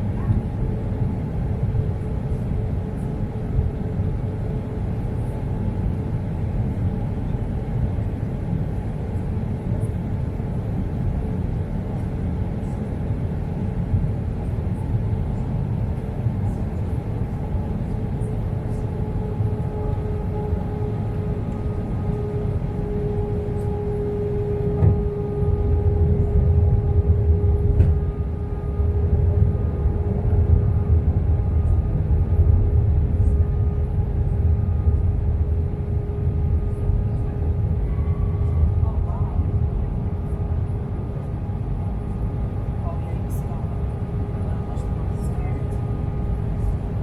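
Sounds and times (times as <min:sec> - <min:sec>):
aircraft cabin engine rumble: 0:00.0 - 0:47.0.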